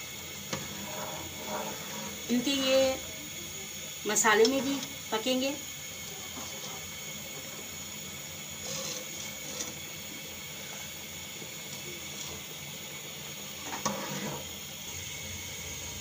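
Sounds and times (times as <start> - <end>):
water boiling and bubbling: 0.0 - 16.0.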